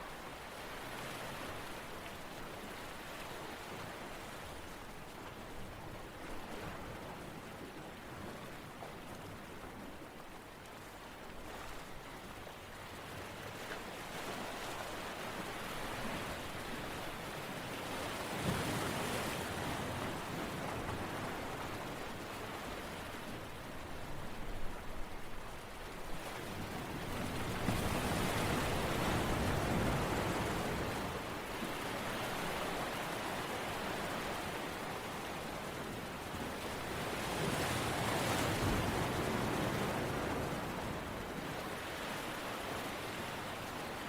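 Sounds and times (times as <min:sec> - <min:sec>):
ocean waves on shore: 0:00.0 - 0:44.0.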